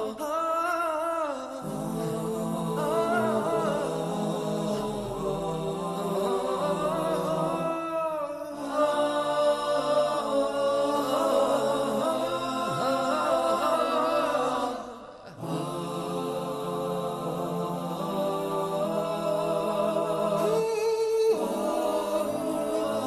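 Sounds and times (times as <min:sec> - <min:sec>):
chanted vocal melody: 0:00.0 - 0:23.0.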